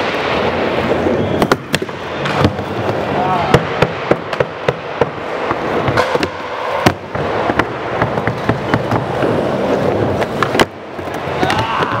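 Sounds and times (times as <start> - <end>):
skateboard clacks: 0.0 - 12.0
skateboard wheels rolling: 0.0 - 12.0.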